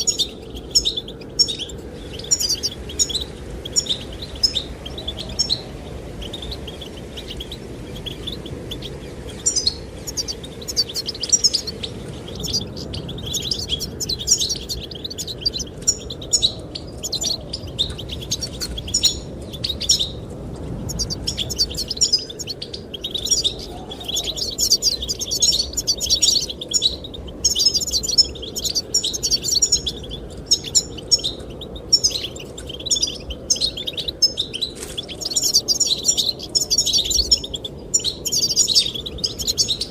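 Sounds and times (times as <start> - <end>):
goldfinches twittering: 0.0 - 39.9
low wind rush: 0.0 - 39.9.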